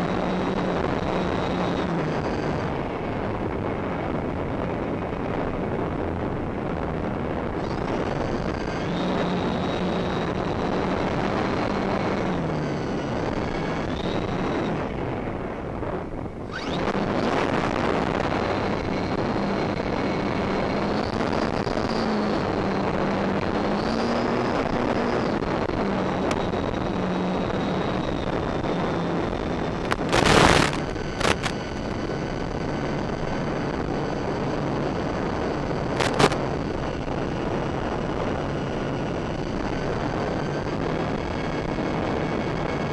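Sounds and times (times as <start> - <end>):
electric motors and propellers whining: 0.0 - 42.9
loud noise bursts: 0.0 - 42.9
wind noise on microphone: 0.0 - 42.9.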